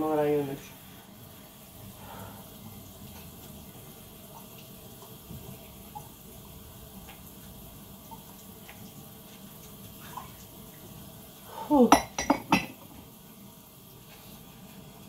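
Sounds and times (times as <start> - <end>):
low background hiss: 0.0 - 15.0.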